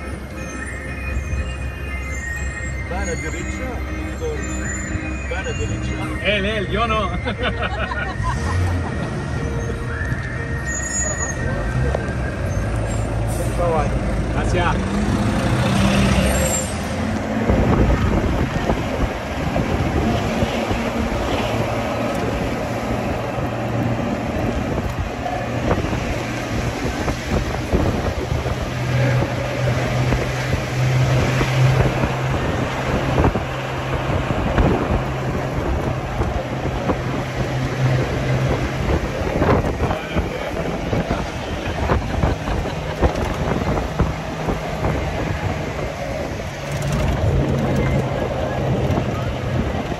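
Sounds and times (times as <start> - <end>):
jeep engine: 0.0 - 49.9.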